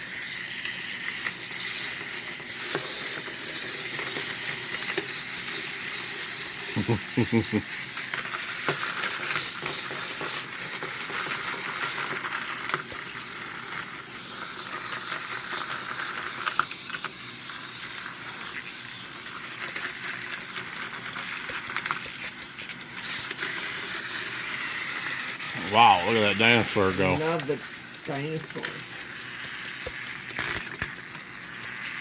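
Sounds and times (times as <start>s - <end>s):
wind-up toys clattering: 0.0s - 32.0s.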